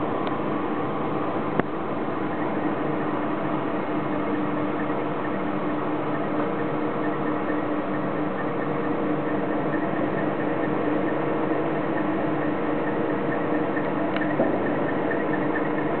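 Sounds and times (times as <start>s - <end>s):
hydraulic unit humming and whining: 0.0s - 16.0s.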